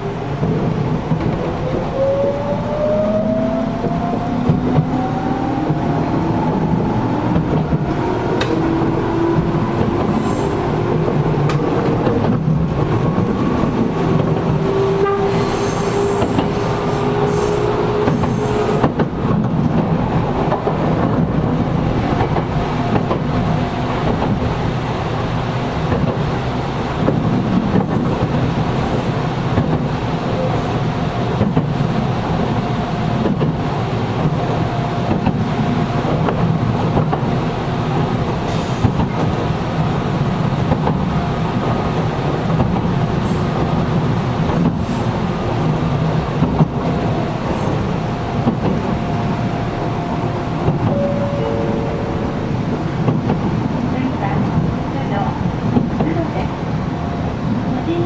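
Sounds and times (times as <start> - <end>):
train wheel and rail noise: 0.0 - 58.0.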